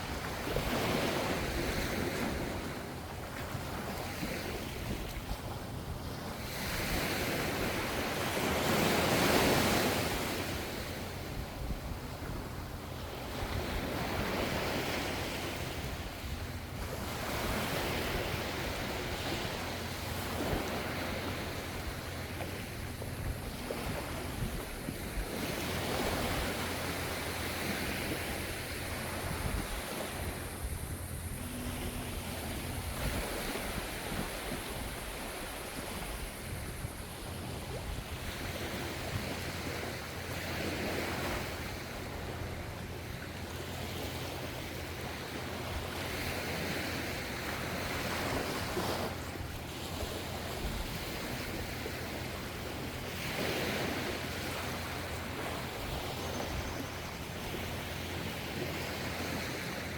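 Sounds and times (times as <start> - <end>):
low rumble of sea: 0.0 - 59.9
waves washing onto shore: 0.0 - 59.9.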